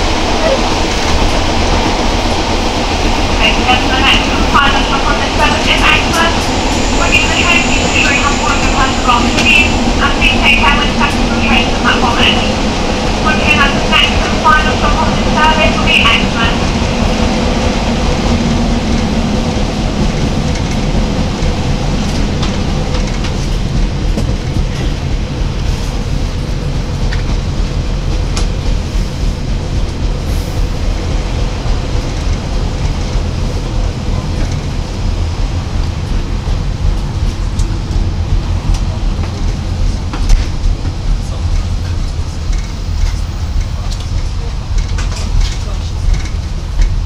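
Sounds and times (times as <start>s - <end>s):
train diesel engine and wheels rumbling: 0.0s - 47.0s.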